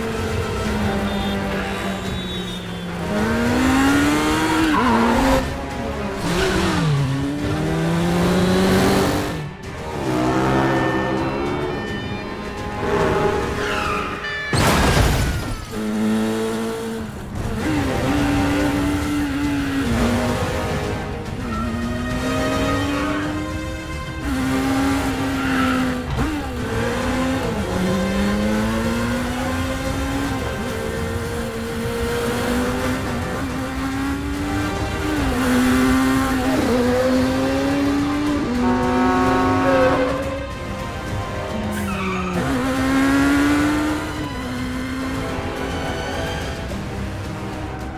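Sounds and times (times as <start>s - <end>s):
motorcycle engine revving: 0.0s - 11.9s, 15.7s - 47.9s
action film score: 0.0s - 47.9s
traffic rushing: 0.0s - 47.9s.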